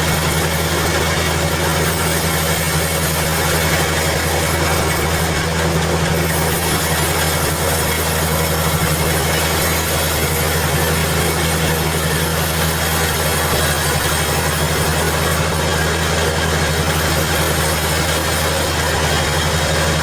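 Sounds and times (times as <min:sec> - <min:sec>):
sawmill machinery humming: 0:00.0 - 0:20.0.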